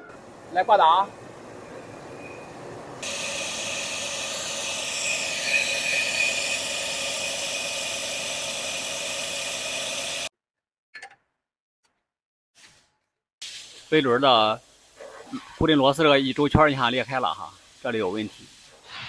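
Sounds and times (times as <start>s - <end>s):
steady hissing noise: 0.2s - 10.3s, 13.4s - 19.0s.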